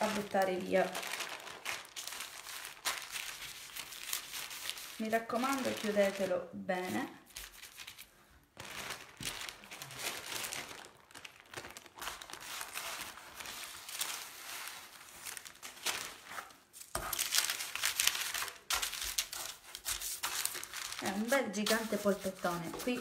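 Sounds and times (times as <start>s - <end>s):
parchment paper crinkling: 0.0s - 23.0s.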